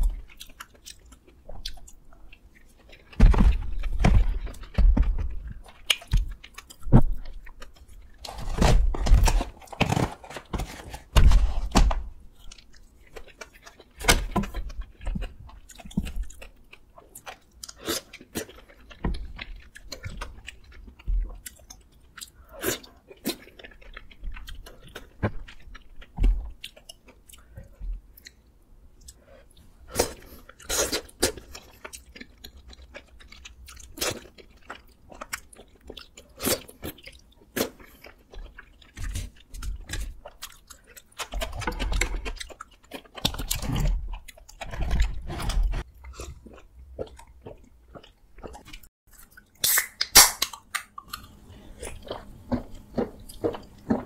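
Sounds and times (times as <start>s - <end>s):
close-up chewing: 0.0s - 11.1s, 12.1s - 54.0s.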